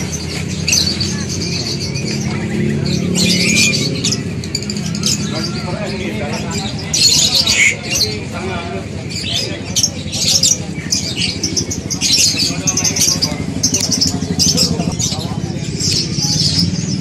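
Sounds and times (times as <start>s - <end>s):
caged birds chirping and squawking: 0.0s - 17.0s
low background hubbub: 0.0s - 17.0s.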